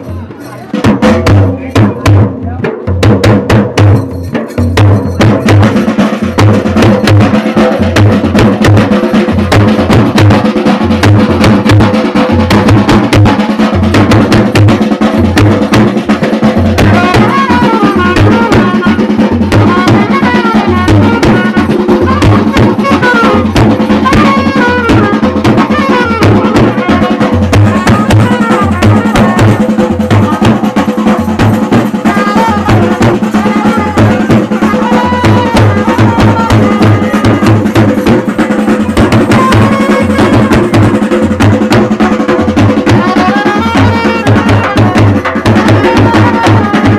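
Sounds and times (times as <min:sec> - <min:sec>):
fast loud drumming: 0:00.0 - 0:46.9.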